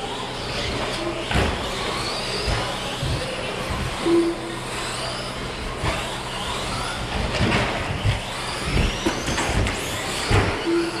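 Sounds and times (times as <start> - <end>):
electric motor whines: 0.0 - 11.0.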